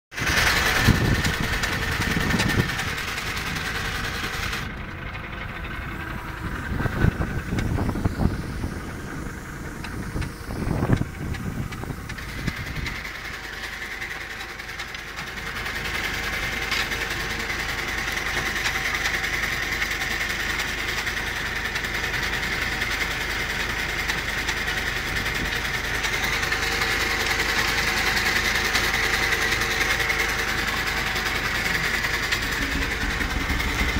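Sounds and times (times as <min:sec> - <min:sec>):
engine running with high whine: 0:00.1 - 0:33.9.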